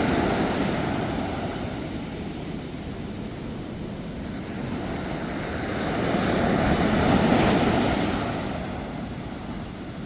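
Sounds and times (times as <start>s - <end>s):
wash of receding surf: 0.0s - 10.0s.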